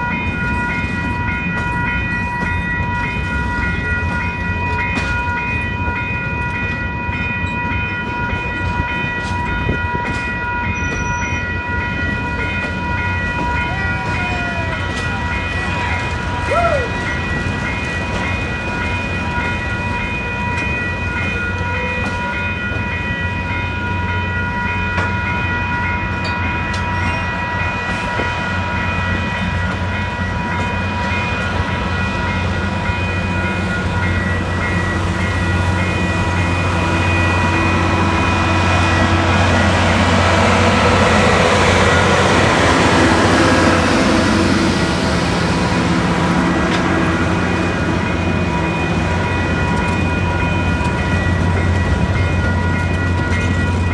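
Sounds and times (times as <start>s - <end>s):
steam train rumbling past: 0.0s - 53.9s.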